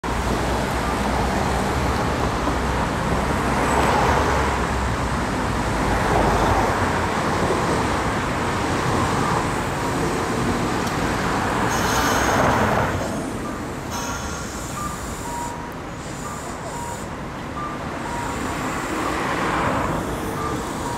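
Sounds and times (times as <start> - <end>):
cars passing: 0.1 - 20.9
tram rolling past: 0.1 - 20.9.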